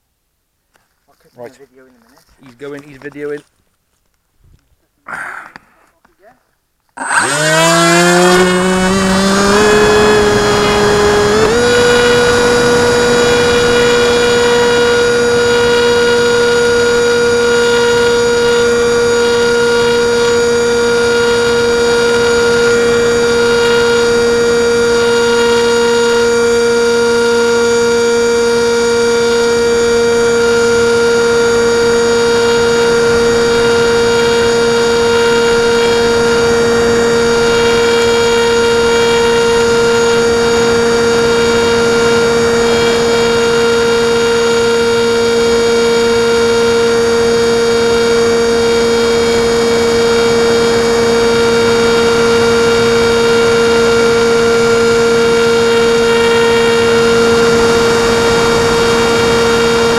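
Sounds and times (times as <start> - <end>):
model plane motor whine: 6.9 - 59.9.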